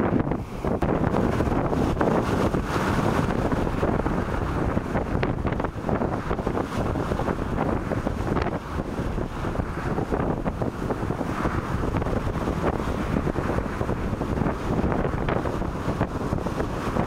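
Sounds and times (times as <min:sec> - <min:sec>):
rush of bow wave and spray: 0:00.0 - 0:17.0
wind buffeting microphone: 0:00.0 - 0:17.0.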